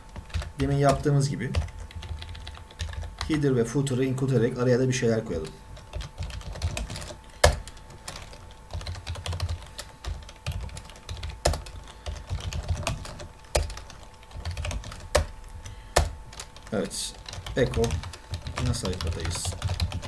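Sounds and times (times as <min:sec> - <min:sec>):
computer keyboard typing: 0:00.0 - 0:03.4, 0:05.3 - 0:20.0.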